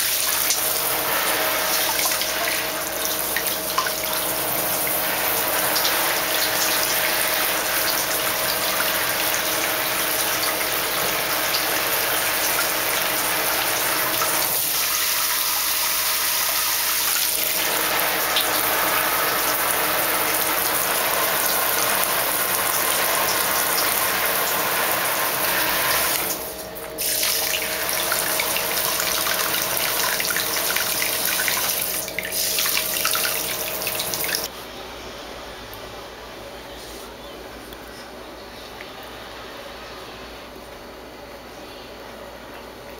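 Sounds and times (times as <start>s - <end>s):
shower water spraying: 0.0s - 34.5s.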